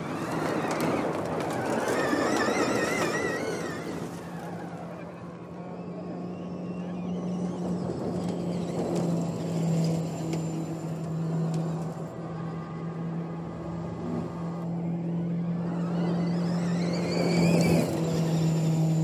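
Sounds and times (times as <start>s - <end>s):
electric motor whine rising: 0.0s - 19.0s
low car drone: 0.0s - 19.0s.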